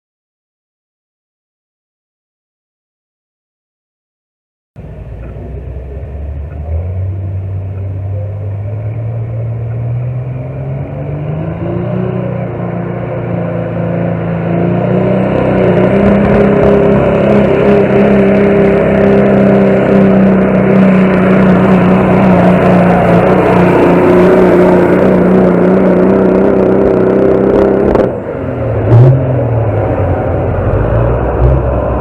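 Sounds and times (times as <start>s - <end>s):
high-revving engine under load: 4.8s - 32.0s
rough low engine sound: 4.8s - 32.0s.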